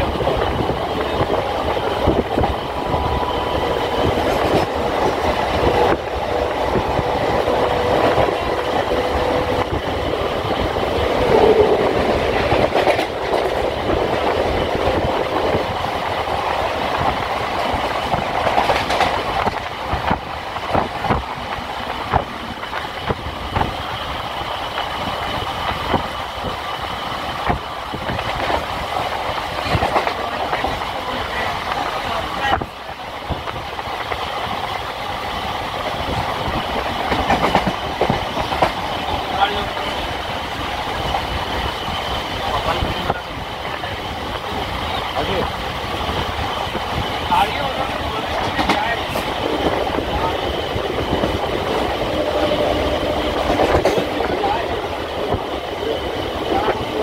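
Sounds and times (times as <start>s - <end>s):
train wheels clacking over rail joints: 0.0s - 57.0s.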